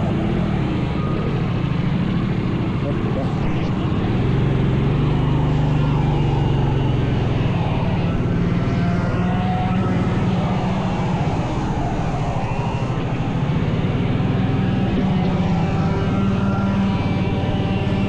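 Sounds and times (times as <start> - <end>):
small racing engine at high revs: 2.6 - 18.0.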